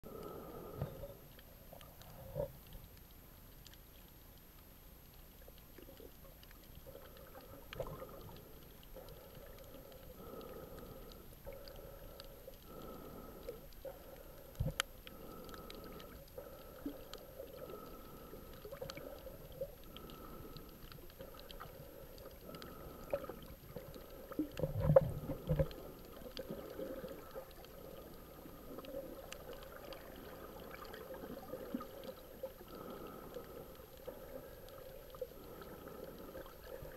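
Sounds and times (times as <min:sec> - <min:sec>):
faint pulsing hum: 0:00.0 - 0:36.9
underwater low wash: 0:00.0 - 0:36.9.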